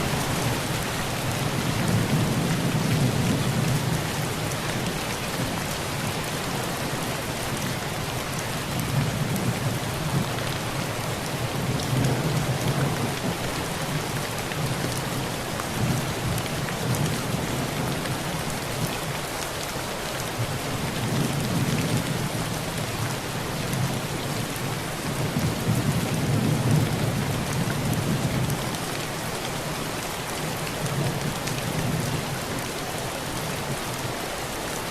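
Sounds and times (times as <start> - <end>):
heavy rain on a tin roof: 0.0 - 34.9.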